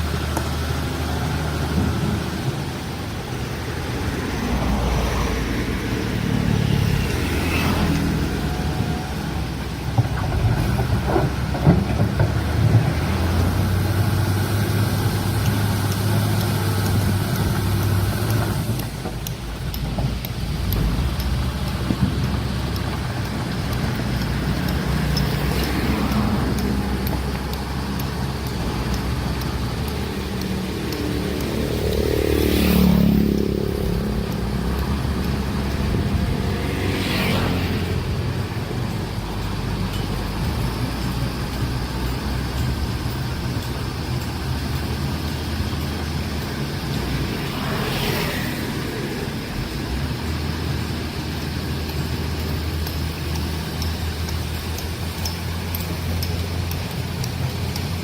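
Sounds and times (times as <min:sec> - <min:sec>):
diesel engines rumbling: 0:00.0 - 0:58.0
vehicles passing: 0:00.0 - 0:58.0.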